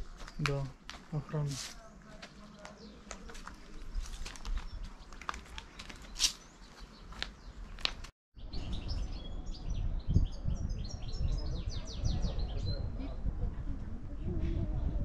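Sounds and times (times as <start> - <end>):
small songbirds chirping: 0.0 - 13.1.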